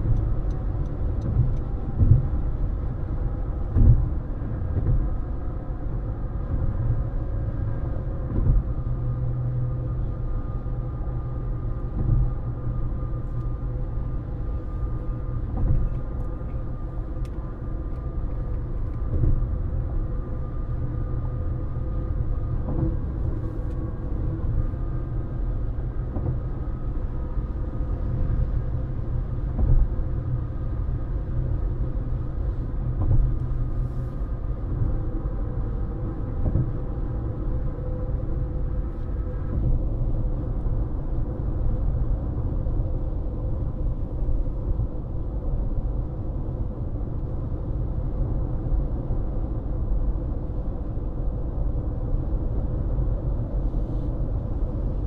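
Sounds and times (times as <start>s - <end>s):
car road noise from inside: 0.0s - 55.0s
faint constant hum: 0.0s - 55.0s.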